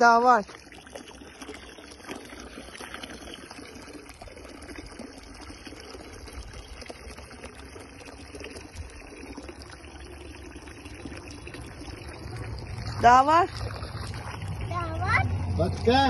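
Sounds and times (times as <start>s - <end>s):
water running and trickling: 0.0s - 16.0s.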